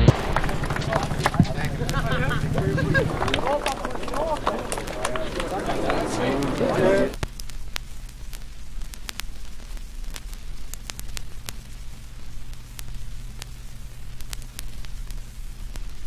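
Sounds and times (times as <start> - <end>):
soft hiss: 0.0 - 16.0
steady low hum: 0.0 - 16.0
vinyl crackle clicks: 0.0 - 16.0.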